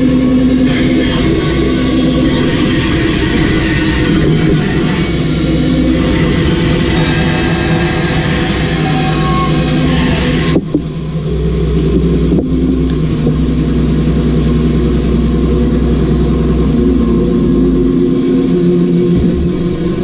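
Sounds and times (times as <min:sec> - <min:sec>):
bandsaw running with no load: 0:00.0 - 0:20.0.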